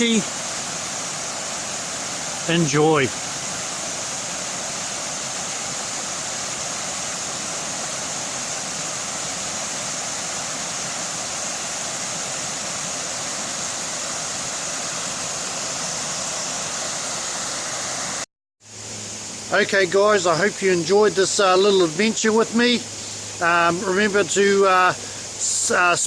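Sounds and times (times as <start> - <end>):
waterfall cascading over boulders: 0.0 - 26.0.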